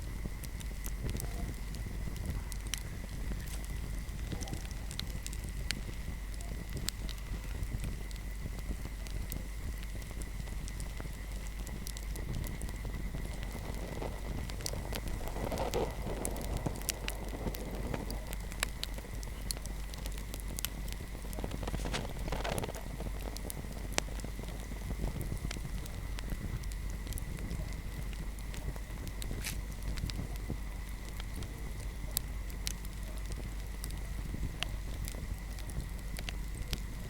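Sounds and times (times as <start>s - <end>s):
fireplace fire crackling: 0.0s - 37.0s
rush of flame: 0.0s - 37.0s.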